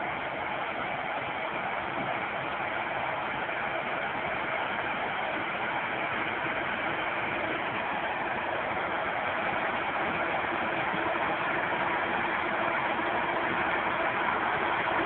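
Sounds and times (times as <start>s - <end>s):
tractor diesel engines and machinery: 0.0s - 15.0s.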